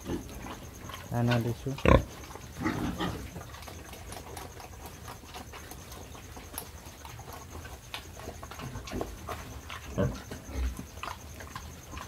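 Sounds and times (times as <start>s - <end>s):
piglets crunching dry feed: 0.0s - 12.0s.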